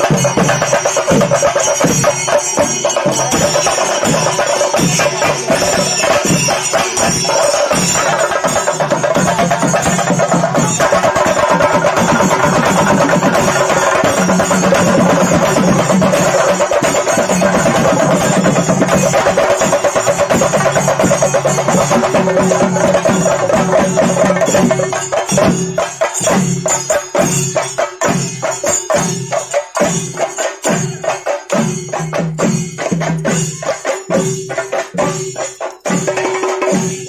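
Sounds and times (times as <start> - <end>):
drums beaten with sticks: 0.0 - 37.0.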